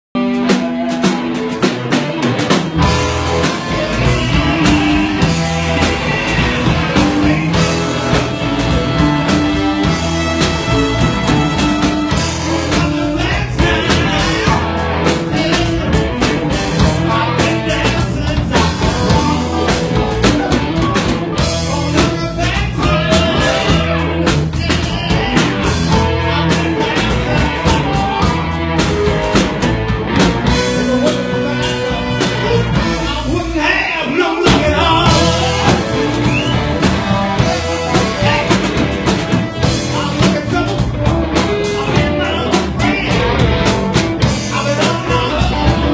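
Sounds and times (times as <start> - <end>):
bass guitar: 0.1 - 45.9
drum kit beat: 0.2 - 45.9
electric guitars: 0.2 - 45.9.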